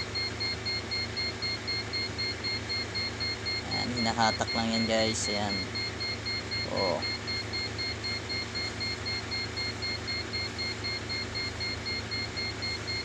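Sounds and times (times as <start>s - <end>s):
high-pitched beeps: 0.0s - 13.0s
machine hum: 0.0s - 13.0s.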